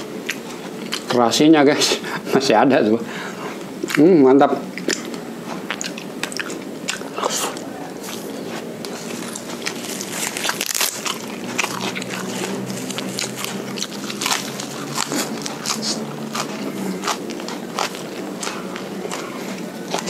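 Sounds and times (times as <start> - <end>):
man chewing wet smacks: 0.1 - 1.2, 3.3 - 20.0
crunchy chewing clicks: 0.2 - 1.2, 3.6 - 20.0.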